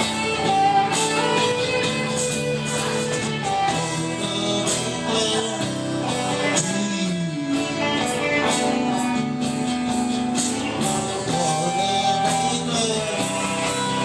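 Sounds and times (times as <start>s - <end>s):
band playing: 0.0s - 14.0s
electric guitar: 0.0s - 14.0s.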